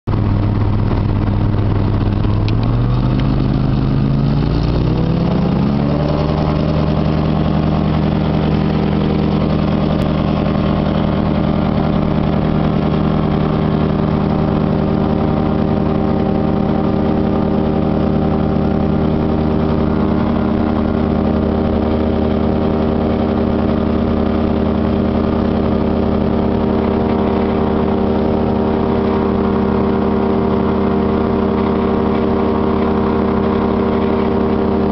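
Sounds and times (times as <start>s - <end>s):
airplane engine droning: 0.1s - 34.9s.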